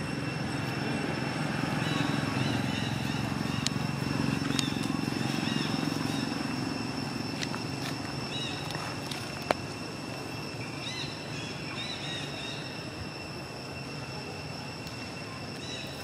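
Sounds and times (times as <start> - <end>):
high-pitched drone: 0.0 - 16.0.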